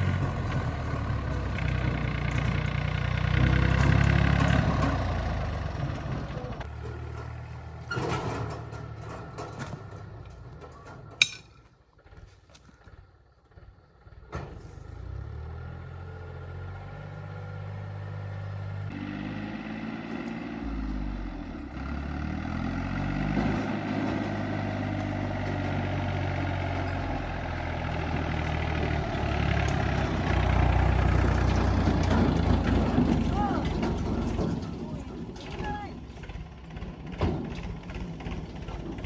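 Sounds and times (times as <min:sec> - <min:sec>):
heavy vehicle engine running: 0:00.0 - 0:11.2, 0:12.8 - 0:39.0.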